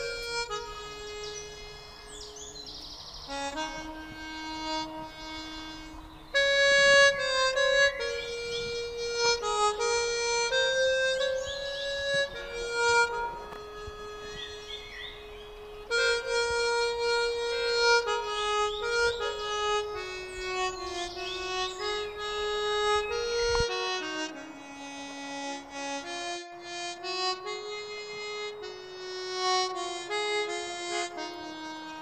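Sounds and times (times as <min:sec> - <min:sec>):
slow harmonica melody: 0:00.0 - 0:32.0.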